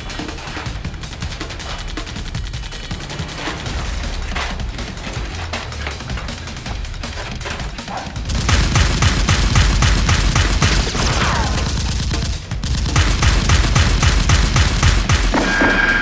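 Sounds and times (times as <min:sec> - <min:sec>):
background music: 0:00.0 - 0:16.0
rapid automatic gunfire: 0:00.0 - 0:16.0.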